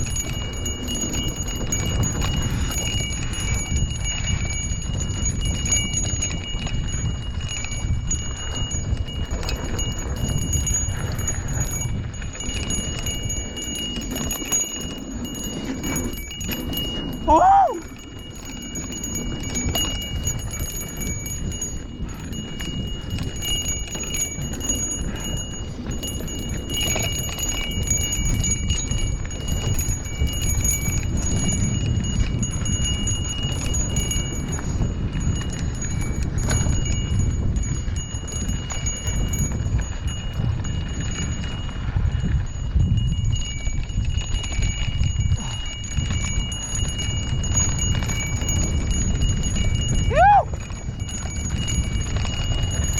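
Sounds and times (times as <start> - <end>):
wind and road rumble: 0.0 - 52.9.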